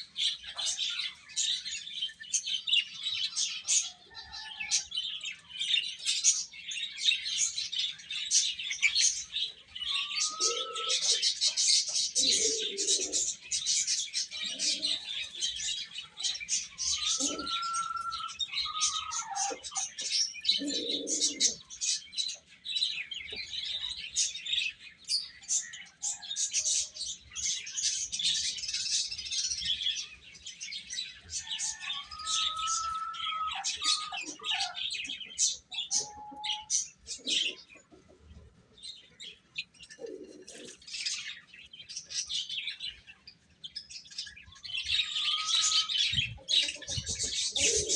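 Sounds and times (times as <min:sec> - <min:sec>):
baby chicks peeping: 0:00.0 - 0:47.9.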